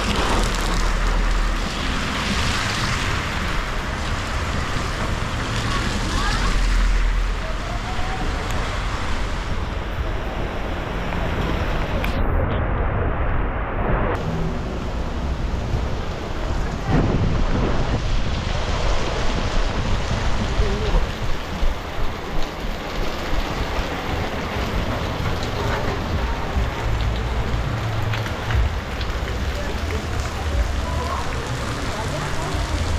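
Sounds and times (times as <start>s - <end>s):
steady rain: 0.0s - 12.4s, 14.1s - 32.9s
low rumble: 0.0s - 32.9s.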